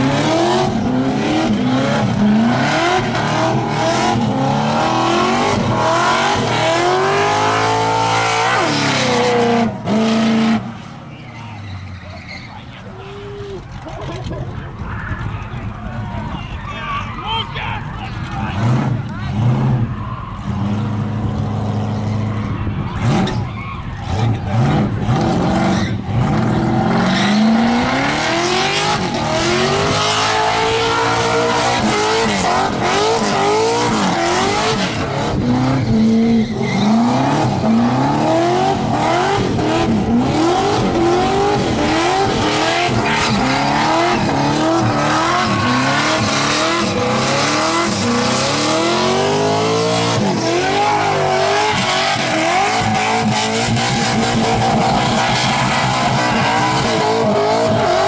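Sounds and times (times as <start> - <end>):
car engine revving: 0.0 - 16.4, 17.9 - 58.0
tyres squealing on pavement: 0.6 - 58.0.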